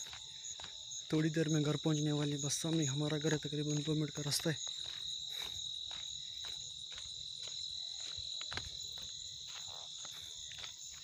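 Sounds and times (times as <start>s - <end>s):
crickets trilling: 0.0s - 11.0s
footsteps on a dirt path: 0.0s - 11.0s.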